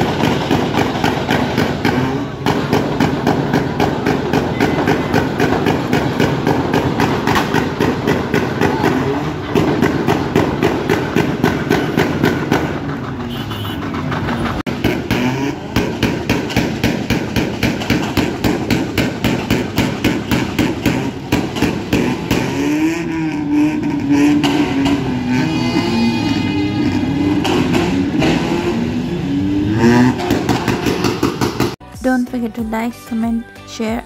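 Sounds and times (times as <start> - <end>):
car engine revving in pulses: 0.0 - 13.2, 14.1 - 31.8.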